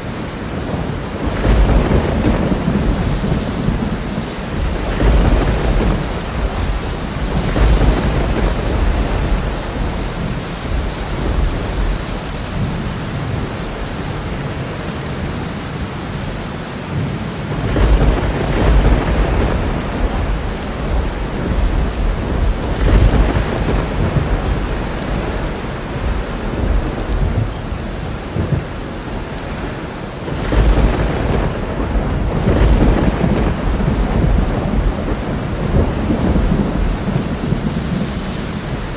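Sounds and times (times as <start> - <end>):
rolling thunder: 0.0 - 14.7, 17.0 - 38.9
heavy rain: 0.0 - 38.9.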